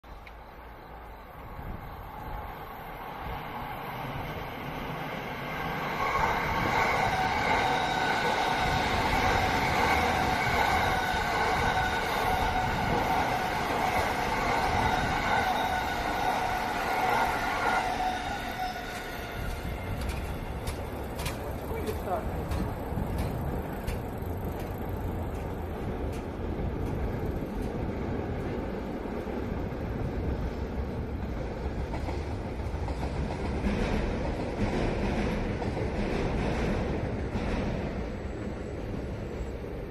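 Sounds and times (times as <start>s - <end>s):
electric trains passing: 0.0s - 39.9s
wheels rumbling on rail: 0.0s - 39.9s.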